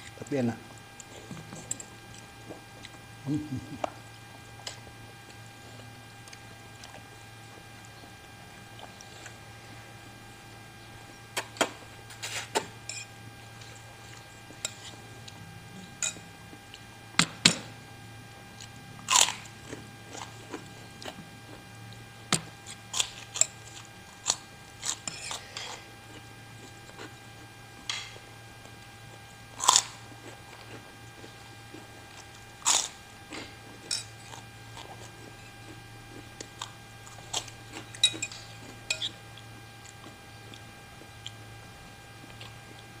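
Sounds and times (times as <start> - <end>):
steady low hum: 0.0 - 43.0
person chewing: 1.0 - 10.2, 11.4 - 16.9, 18.3 - 42.9.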